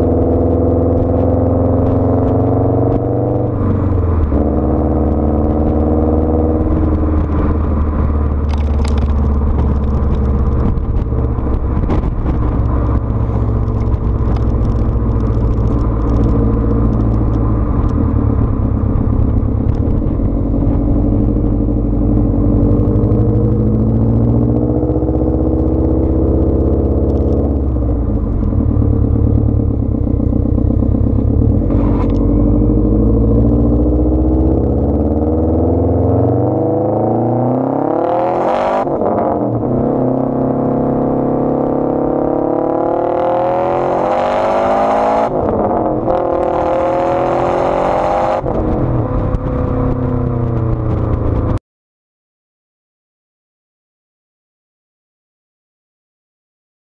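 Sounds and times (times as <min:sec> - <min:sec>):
car engine accelerating: 0:00.0 - 0:51.6.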